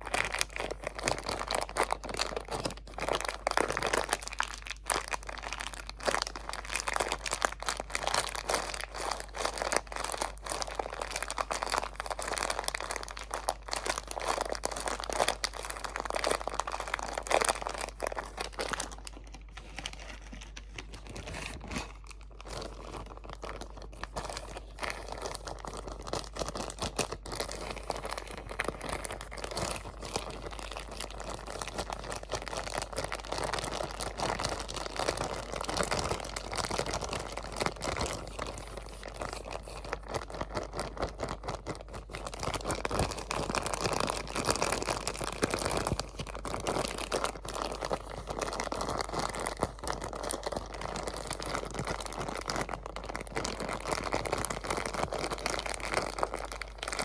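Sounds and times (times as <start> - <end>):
crinkly material crumpling: 0.0 - 57.0.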